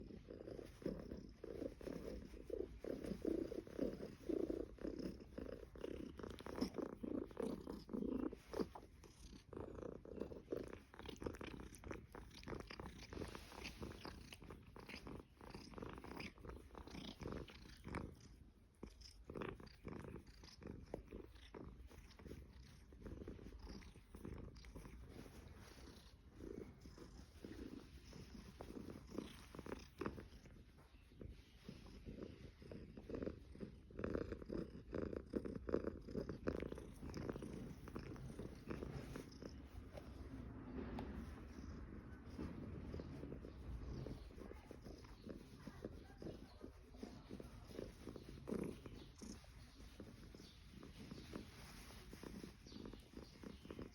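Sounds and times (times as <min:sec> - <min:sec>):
cat purring: 0:00.0 - 0:53.9.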